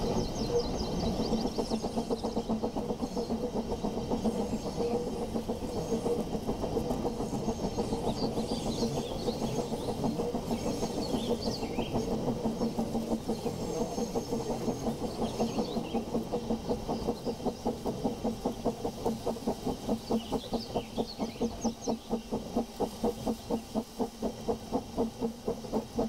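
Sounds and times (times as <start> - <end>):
pulsing mechanical running: 0.0 - 26.0.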